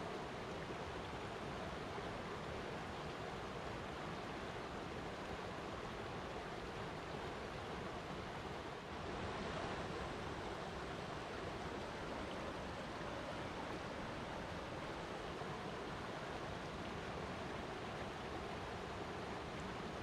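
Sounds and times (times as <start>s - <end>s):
water flowing: 0.1s - 20.0s.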